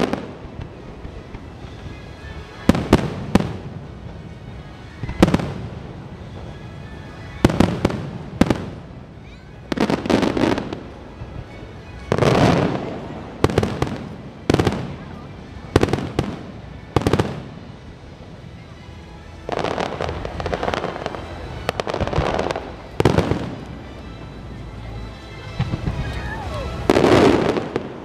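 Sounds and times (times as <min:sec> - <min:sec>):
fireworks bursting: 0:00.0 - 0:18.6, 0:19.4 - 0:28.0
faint music: 0:00.0 - 0:28.0.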